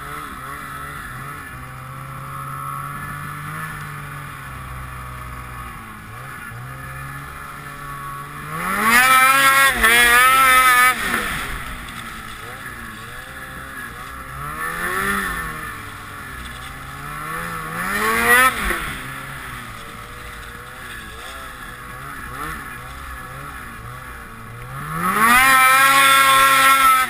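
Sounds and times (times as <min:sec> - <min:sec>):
snowmobile engine revving: 0:00.0 - 0:27.0.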